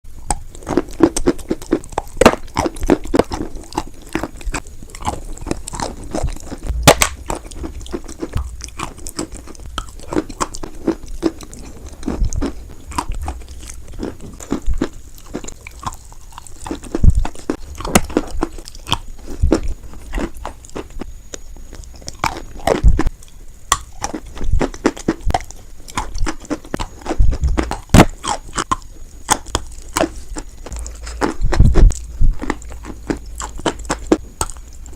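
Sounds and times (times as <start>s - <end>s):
chewing chalk crunches: 0.2s - 34.9s.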